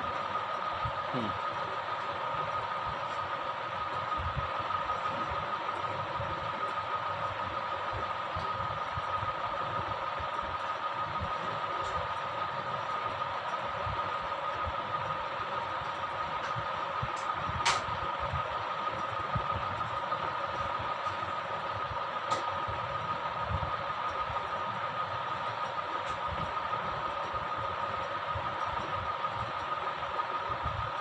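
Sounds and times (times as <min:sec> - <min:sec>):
mechanical hum and hiss: 0:00.0 - 0:31.0
two-tone whine: 0:00.0 - 0:31.0.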